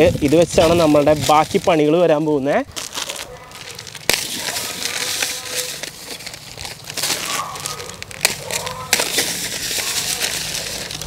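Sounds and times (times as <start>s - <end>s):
plastic packets crinkling: 0.0s - 11.0s.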